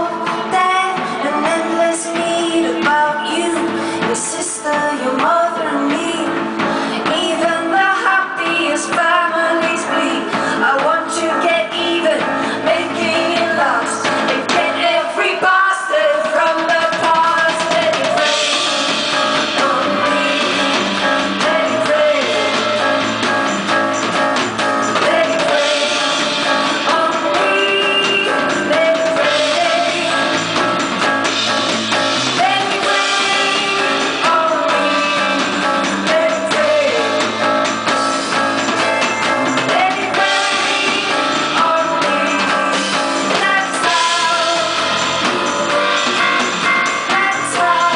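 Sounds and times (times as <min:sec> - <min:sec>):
woman singing: 0:00.0 - 0:30.9, 0:32.4 - 0:47.9
rock band playing: 0:00.0 - 0:47.9.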